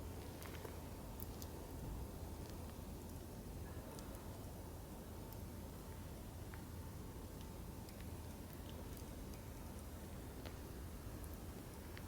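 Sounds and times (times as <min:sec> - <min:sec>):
faint fire crackles: 0:00.0 - 0:12.0.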